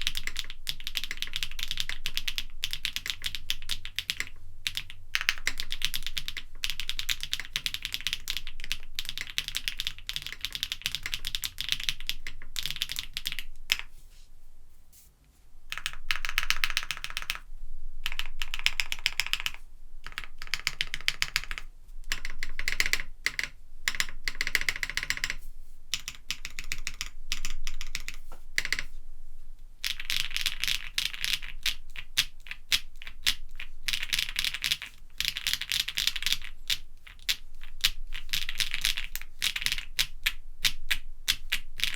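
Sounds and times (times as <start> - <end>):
mechanical keyboard typing: 0.0 - 13.9, 15.7 - 17.4, 18.0 - 28.9, 29.8 - 41.9.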